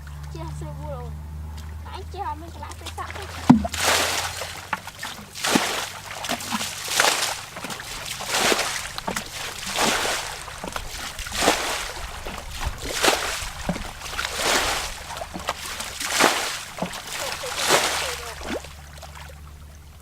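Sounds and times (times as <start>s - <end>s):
water splashing and sloshing: 1.5s - 20.0s.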